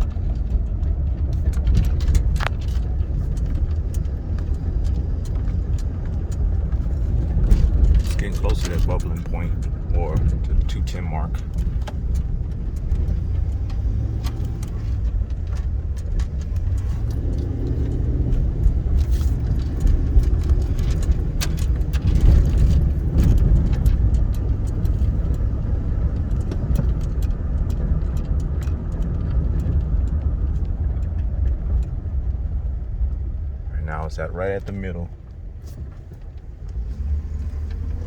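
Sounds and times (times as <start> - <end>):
engine and road noise rumble: 0.0 - 38.0
faint clicks and rattles: 0.0 - 38.0.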